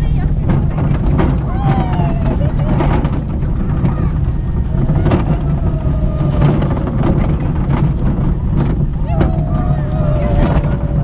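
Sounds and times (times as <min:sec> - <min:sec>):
roller coaster wheels rumbling: 0:00.0 - 0:11.0
wind noise on microphone: 0:00.0 - 0:11.0.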